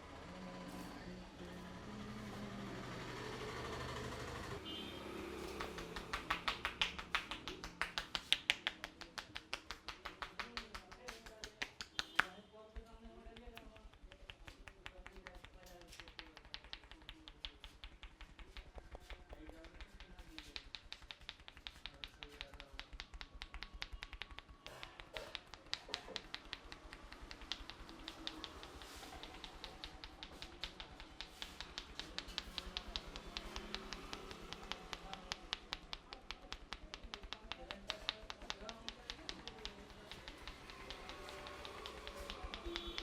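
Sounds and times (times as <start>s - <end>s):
hands tapping on head: 5.4s - 43.0s.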